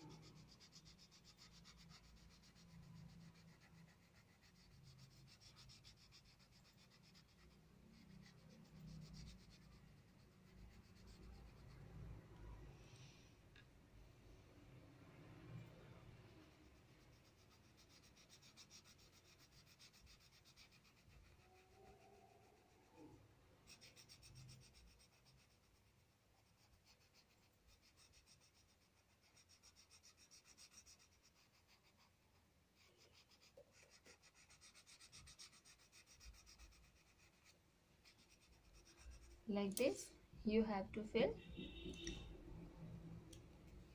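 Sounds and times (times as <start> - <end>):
pencil scratching on paper: 0.0 - 13.1, 15.5 - 40.2.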